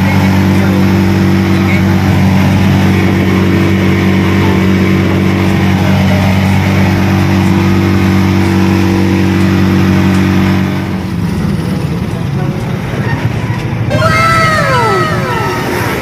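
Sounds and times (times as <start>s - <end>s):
road noise: 0.0s - 16.0s
vehicle engine drone: 0.0s - 16.0s
wind: 0.0s - 16.0s.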